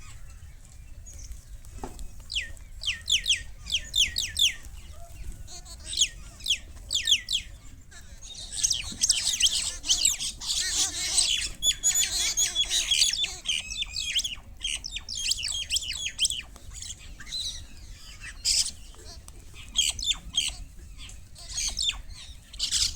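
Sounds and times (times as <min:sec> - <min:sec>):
birds chattering and squawking: 0:00.0 - 0:22.9.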